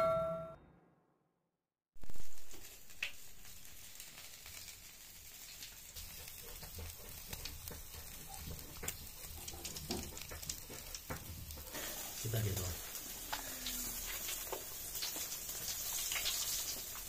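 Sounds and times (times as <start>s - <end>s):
meat sizzling on grill: 2.0s - 17.0s.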